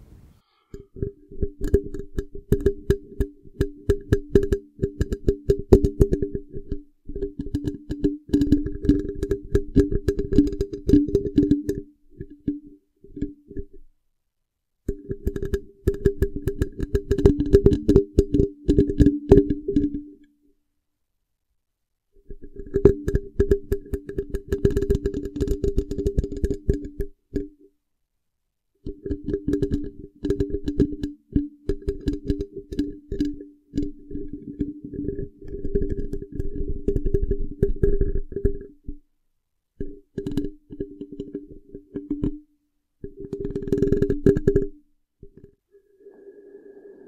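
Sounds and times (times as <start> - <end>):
fingers tapping on microphone: 0.0 - 13.8, 14.8 - 20.3, 22.4 - 27.6, 28.8 - 39.0, 39.8 - 42.4, 43.0 - 45.6.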